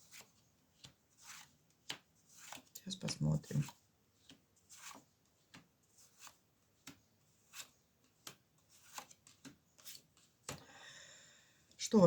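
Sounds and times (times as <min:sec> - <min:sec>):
cards rustling and tapping: 0:00.0 - 0:10.7.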